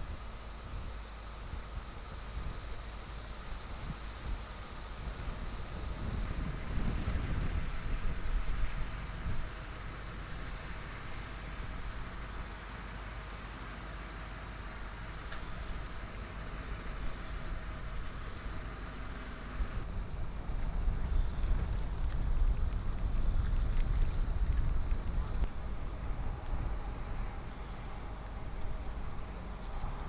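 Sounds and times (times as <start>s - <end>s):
wind rumbling on microphone: 0.0s - 13.2s, 14.5s - 30.0s.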